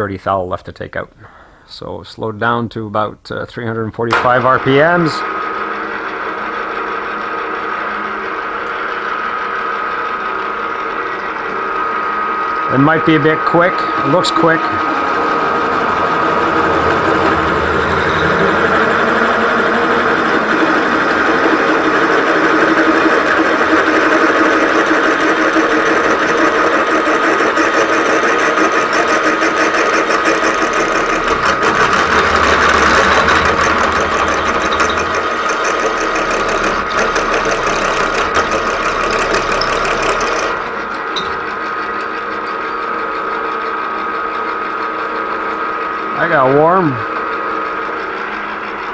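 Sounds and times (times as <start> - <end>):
milling machine spindle whine: 4.0 - 48.9
drill bit cutting steel chatter: 4.1 - 48.9.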